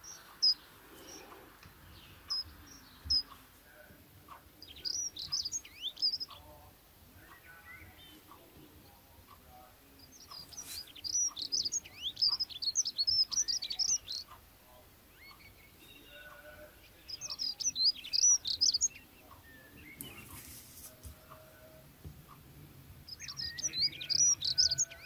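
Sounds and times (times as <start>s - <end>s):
songbird twittering: 0.0s - 3.4s, 4.3s - 20.5s, 23.0s - 25.0s.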